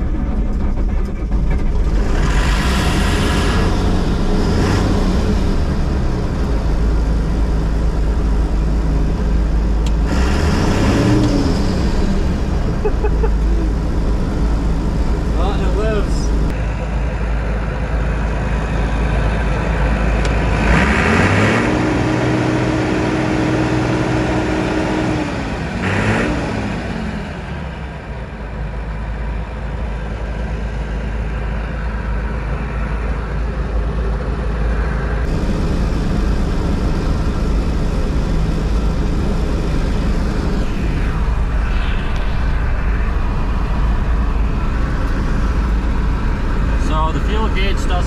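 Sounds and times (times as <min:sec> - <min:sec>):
diesel engine revving and idling: 0:00.0 - 0:48.0.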